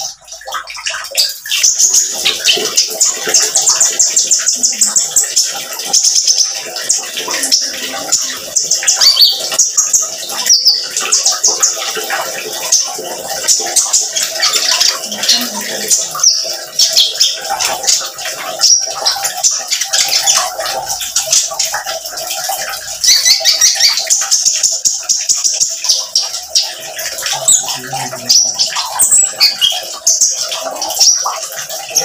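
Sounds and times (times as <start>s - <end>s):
bird singing rapid chirps and trills: 0.0s - 32.0s
trickling water: 0.0s - 32.0s.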